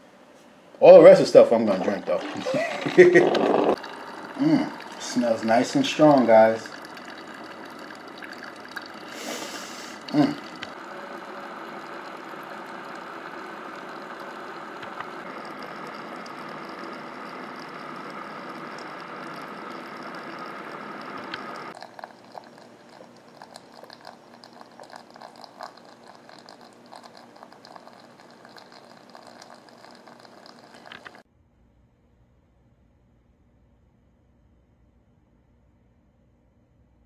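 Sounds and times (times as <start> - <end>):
coffee maker hissing: 0.8 - 31.2.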